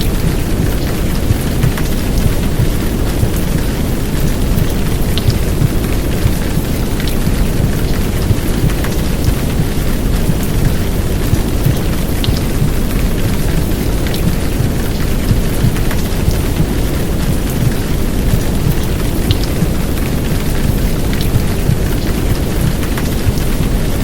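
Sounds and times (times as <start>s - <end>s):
heavy rain hiss: 0.0s - 24.0s
rain drop ticks: 0.0s - 24.0s.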